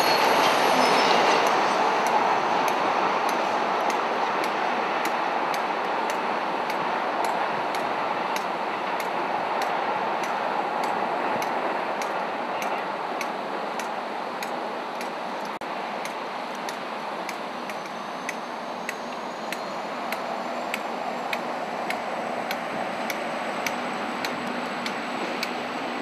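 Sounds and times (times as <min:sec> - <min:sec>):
diesel train idling hum: 0:00.0 - 0:26.0
light regular ticking: 0:01.4 - 0:25.6.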